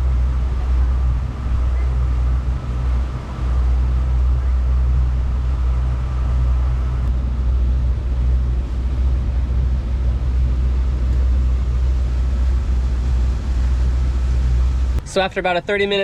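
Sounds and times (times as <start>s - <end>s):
boat motor rumbling: 0.0s - 16.0s.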